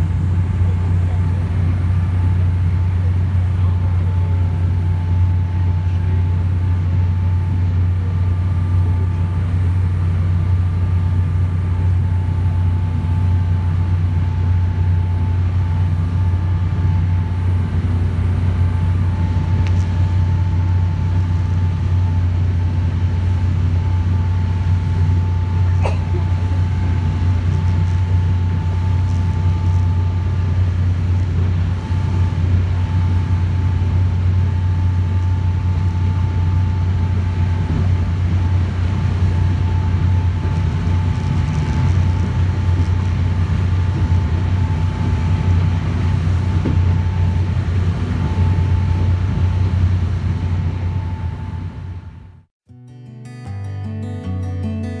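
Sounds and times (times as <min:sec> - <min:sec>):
boat engine droning: 0:00.0 - 0:52.5
faint steady whine: 0:00.0 - 0:52.5.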